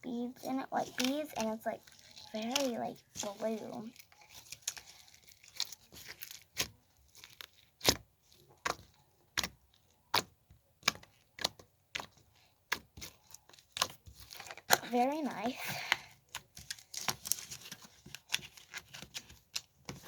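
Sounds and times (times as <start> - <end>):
slime popping and crackling: 0.4 - 20.0.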